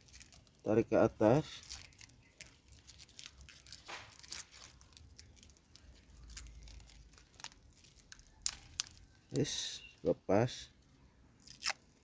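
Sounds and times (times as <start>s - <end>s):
plastic film crinkling: 0.0s - 9.6s, 11.4s - 12.0s.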